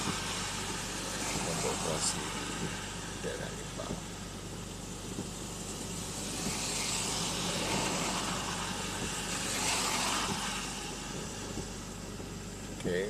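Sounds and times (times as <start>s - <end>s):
car engine low hum: 0.0s - 13.0s
tyres hissing on wet road: 0.0s - 13.0s.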